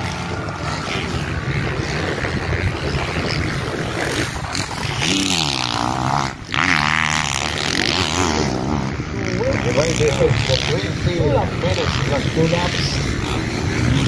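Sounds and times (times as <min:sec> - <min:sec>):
motocross bike engines racing: 0:00.0 - 0:14.0.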